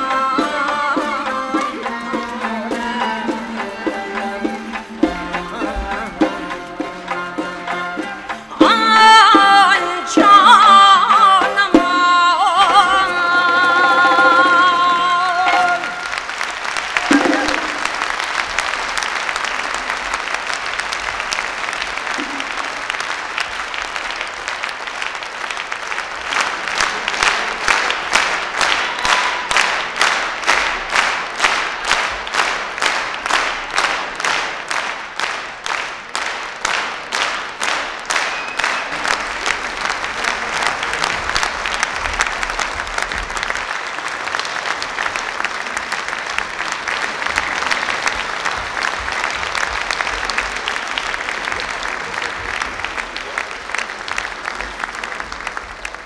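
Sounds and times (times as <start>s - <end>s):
audience applauding: 0.0s - 56.0s
rhythmic unison clapping: 0.0s - 56.0s.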